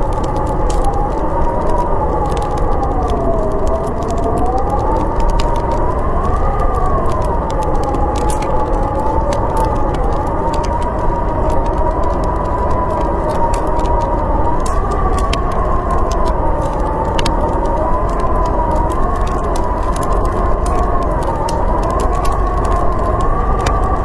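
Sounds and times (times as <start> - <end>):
howling blizzard wind: 0.0 - 24.0
wood fire crackling: 0.0 - 24.0.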